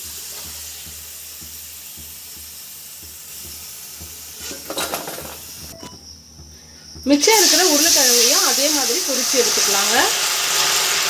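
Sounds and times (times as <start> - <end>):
hot oil sizzling: 0.0 - 11.0
utensil knocks: 0.1 - 9.6.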